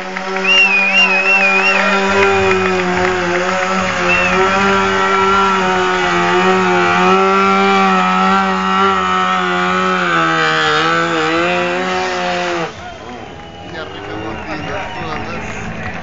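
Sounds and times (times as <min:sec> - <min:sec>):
motorcycle engine revving high: 0:00.0 - 0:13.7.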